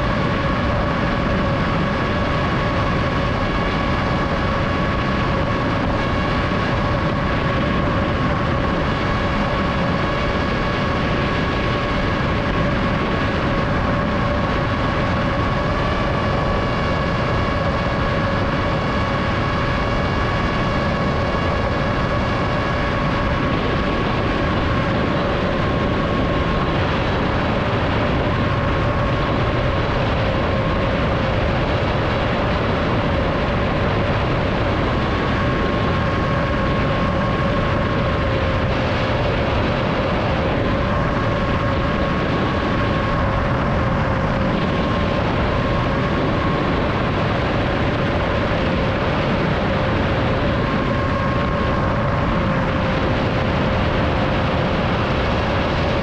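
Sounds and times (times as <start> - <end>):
rush of air noise: 0.0 - 56.0.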